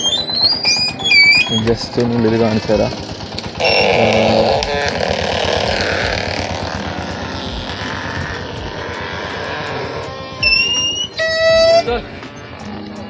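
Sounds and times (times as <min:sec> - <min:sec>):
wooden oil mill grinding: 0:00.2 - 0:11.2.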